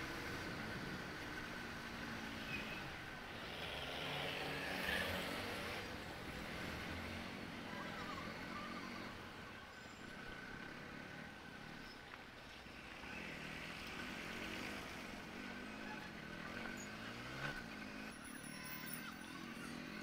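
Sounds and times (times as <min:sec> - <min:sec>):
traffic: 0:00.0 - 0:20.0.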